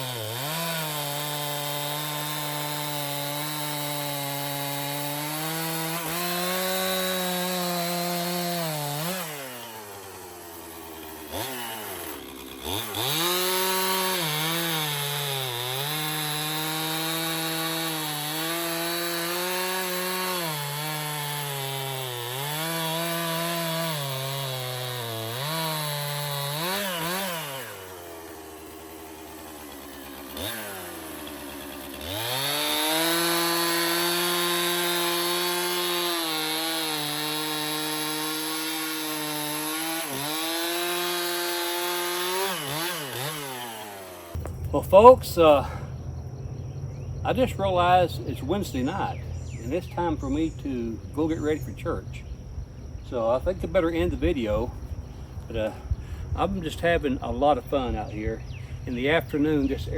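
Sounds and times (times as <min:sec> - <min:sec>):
chainsaw cutting logs: 0:00.0 - 0:59.9.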